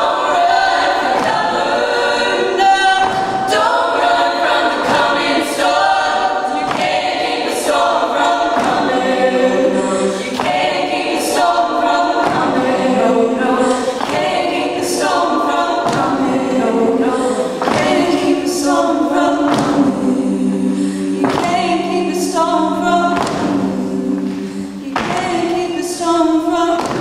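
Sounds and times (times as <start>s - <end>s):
women singing a cappella: 0.0s - 27.0s.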